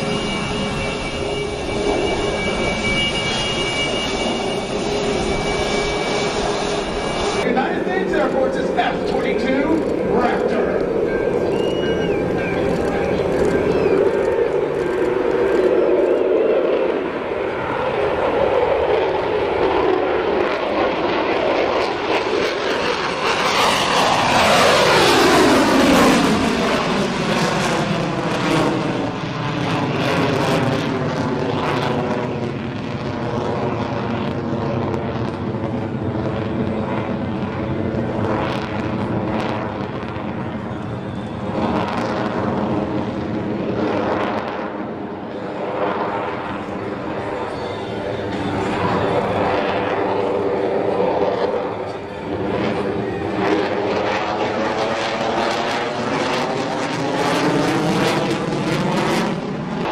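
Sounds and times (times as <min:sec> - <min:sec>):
jet flying past: 0:00.0 - 0:59.9.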